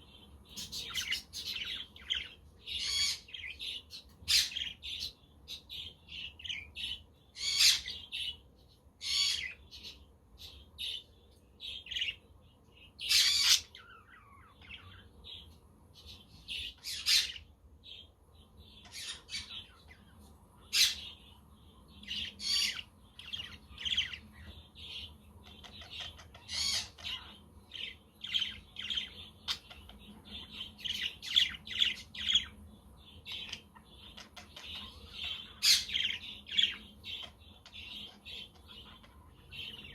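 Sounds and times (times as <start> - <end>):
budgerigars chirping: 0.5 - 8.4, 9.0 - 11.0, 13.0 - 15.5, 16.1 - 18.0, 18.8 - 20.0, 22.0 - 39.9.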